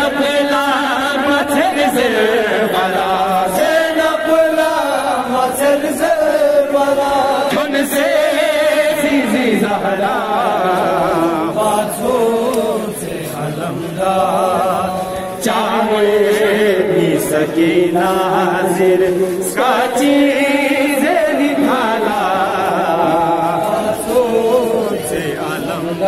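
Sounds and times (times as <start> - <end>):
men chanting into microphones: 0.0 - 26.0.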